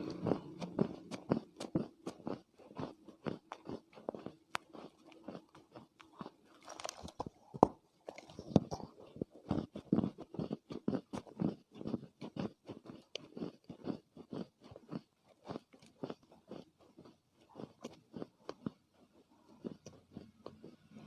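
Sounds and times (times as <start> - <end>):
soft crunches of chewing clay: 0.0 - 21.0.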